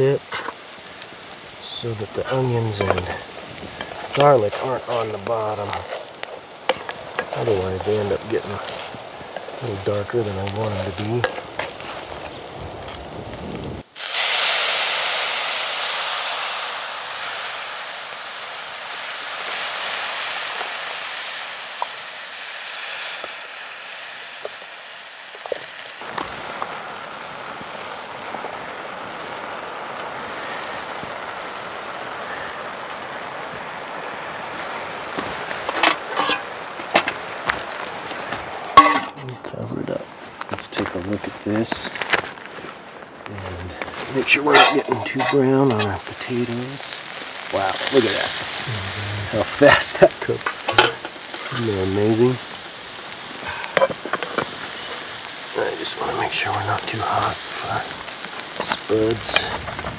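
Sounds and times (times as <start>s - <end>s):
hash browns sizzling in a frying pan: 0.0s - 59.9s.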